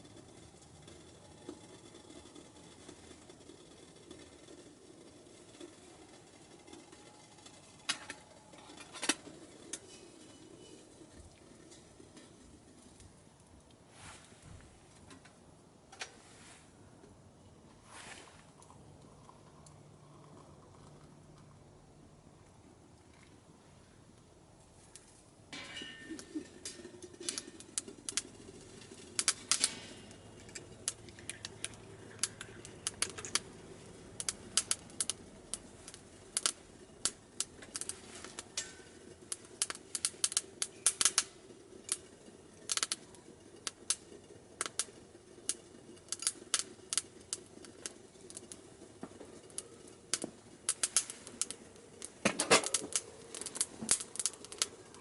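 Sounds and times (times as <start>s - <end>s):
wood fire crackling and popping: 0.0s - 16.2s, 16.9s - 55.0s.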